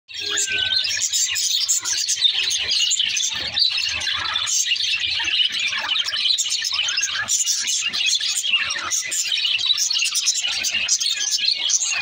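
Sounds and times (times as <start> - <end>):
budgerigars chattering and warbling: 0.1 - 12.0.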